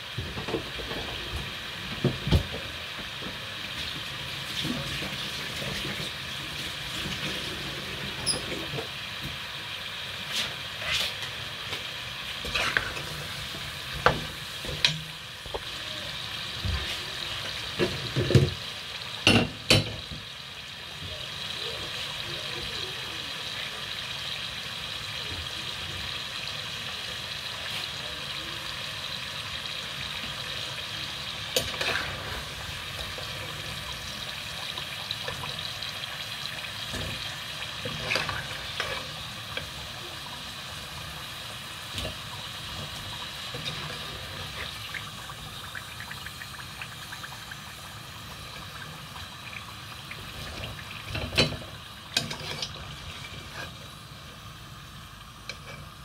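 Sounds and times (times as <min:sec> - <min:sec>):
food frying in oil: 0:00.0 - 0:56.0.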